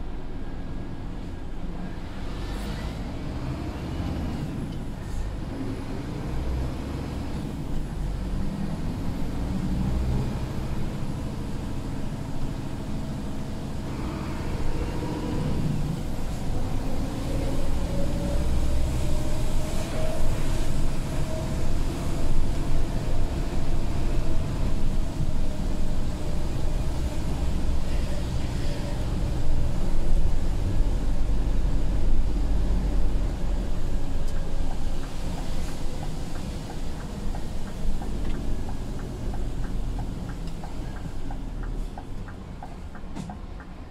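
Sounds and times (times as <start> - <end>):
diesel truck engine running: 0.0 - 43.9
tyre noise on wet road: 1.8 - 43.9.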